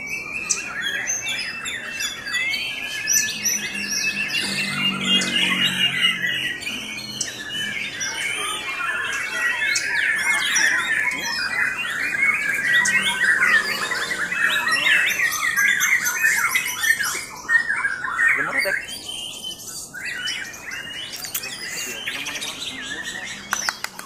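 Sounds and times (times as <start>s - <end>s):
birds singing whistled trills: 0.0s - 24.0s.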